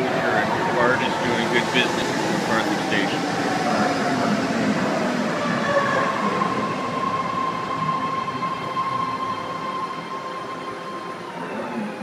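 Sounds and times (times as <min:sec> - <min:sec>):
high train whine: 0:00.0 - 0:12.0.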